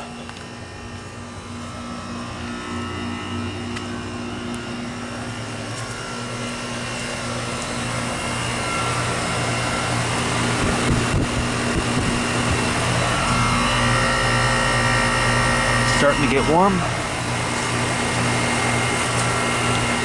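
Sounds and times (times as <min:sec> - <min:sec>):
heat pump compressor hum and fan: 0:00.0 - 0:20.0.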